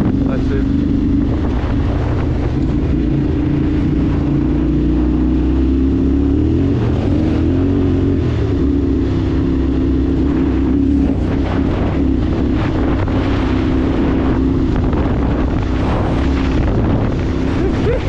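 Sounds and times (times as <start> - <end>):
road noise: 0.0 - 18.0
vehicle engine running: 0.0 - 18.0
wind: 0.0 - 18.0.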